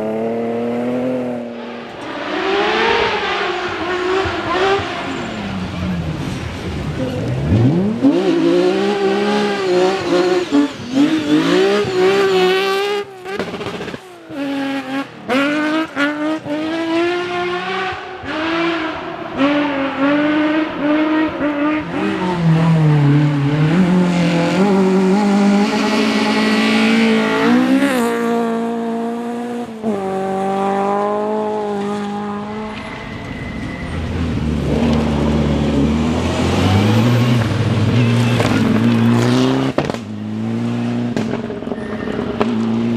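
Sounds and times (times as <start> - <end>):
deeper second engine: 0.0 - 42.9
rally car engine revving: 0.0 - 42.9.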